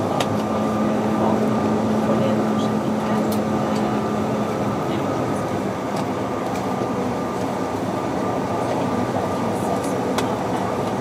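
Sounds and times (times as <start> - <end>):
jet engines humming: 0.0 - 11.0.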